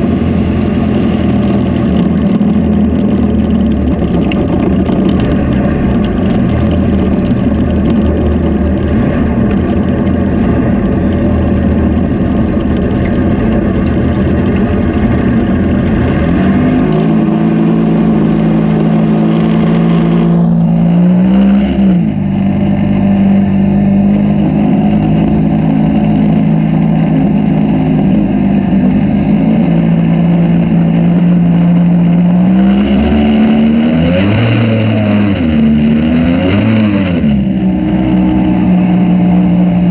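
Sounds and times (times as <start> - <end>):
outboard jet motor running: 0.0 - 39.9
rushing water: 0.0 - 39.9.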